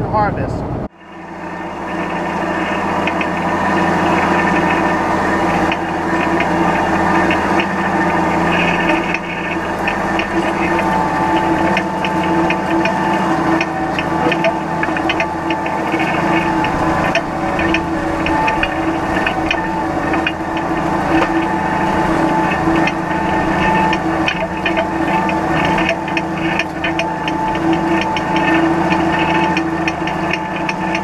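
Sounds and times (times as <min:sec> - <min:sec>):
combine engine hum: 0:00.0 - 0:31.0.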